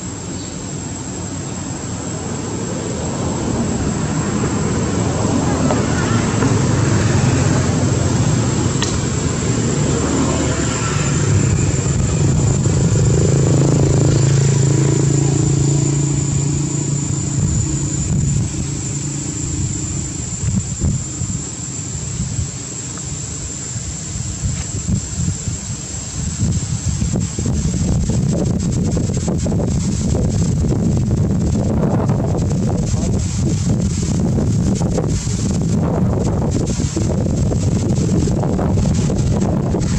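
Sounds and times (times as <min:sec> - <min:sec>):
high-pitched whine: 0:00.0 - 0:39.9
motor engine humming: 0:00.0 - 0:39.9
wind buffeting microphone: 0:00.7 - 0:39.9.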